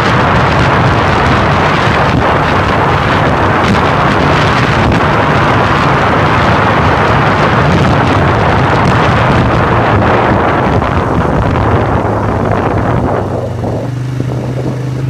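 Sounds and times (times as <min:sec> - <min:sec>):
atv engine running: 0:00.0 - 0:15.0
wind buffeting the microphone: 0:00.0 - 0:15.0.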